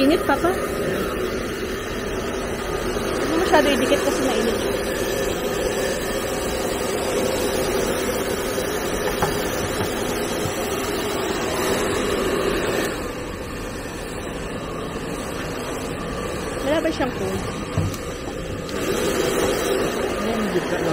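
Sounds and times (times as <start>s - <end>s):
hair dryer blowing: 0.0s - 20.9s.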